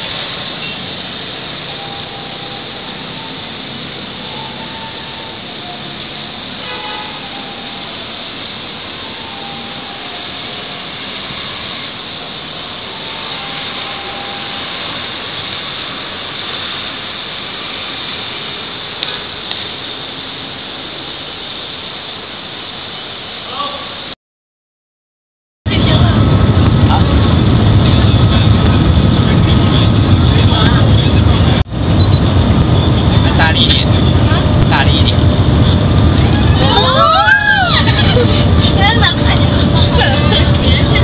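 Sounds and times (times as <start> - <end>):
train rushing noise at speed: 0.0 - 24.1, 25.7 - 41.0.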